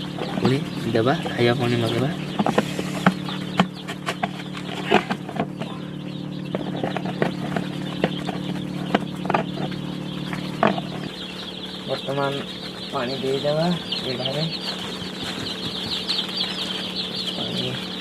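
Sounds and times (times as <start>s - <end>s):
chicks peeping: 0.0s - 18.0s
steady low hum: 0.0s - 18.0s.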